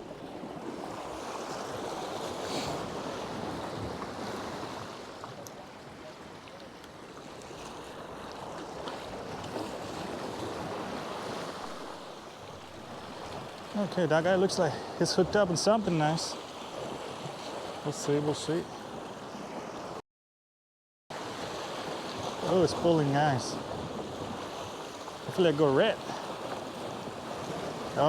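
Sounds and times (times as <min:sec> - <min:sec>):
waves washing against rocks: 0:00.0 - 0:18.7, 0:21.2 - 0:28.0.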